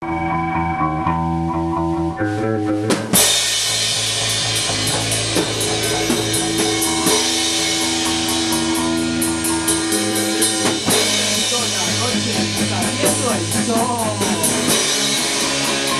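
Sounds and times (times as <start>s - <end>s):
electric guitar chords: 0.0s - 15.9s
rock band playing: 0.0s - 15.9s.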